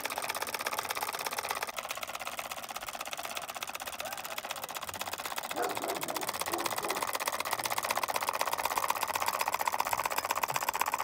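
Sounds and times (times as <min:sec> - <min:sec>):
small engine clattering clicks: 0:00.0 - 0:11.0.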